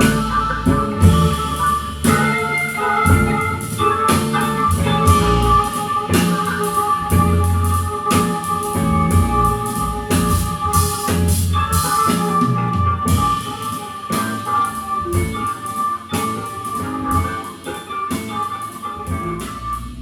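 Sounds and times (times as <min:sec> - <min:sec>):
music with drums: 0:00.0 - 0:20.0.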